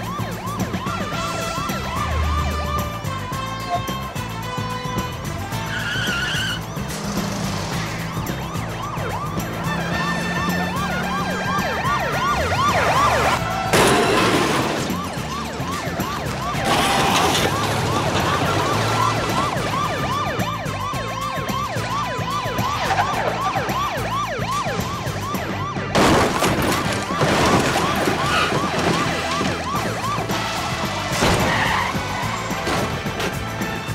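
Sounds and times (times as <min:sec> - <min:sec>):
background music: 0:00.0 - 0:33.9
police siren yelping: 0:00.0 - 0:33.9.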